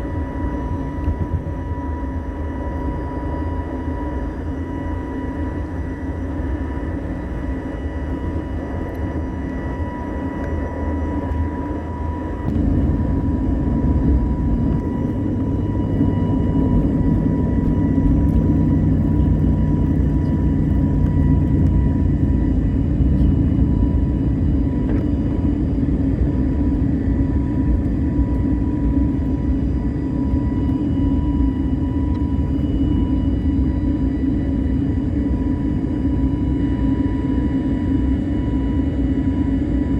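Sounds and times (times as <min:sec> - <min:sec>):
jet engines inside cabin: 0:00.0 - 0:39.9.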